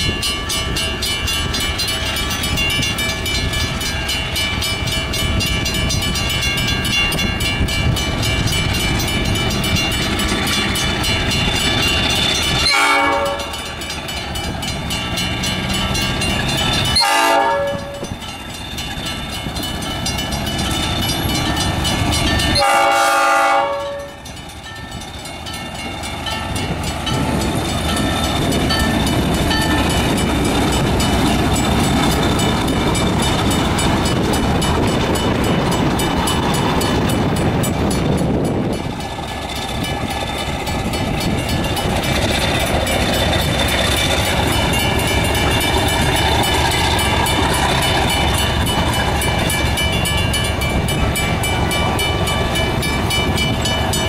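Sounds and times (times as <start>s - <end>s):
crossing bell ringing: 0.0s - 54.0s
diesel locomotive engine: 0.0s - 54.0s
train wheels on rails: 0.0s - 54.0s.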